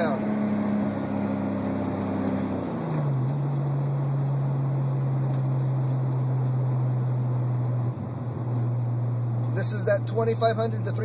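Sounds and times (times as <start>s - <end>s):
car exhaust drone from cabin: 0.0s - 11.0s.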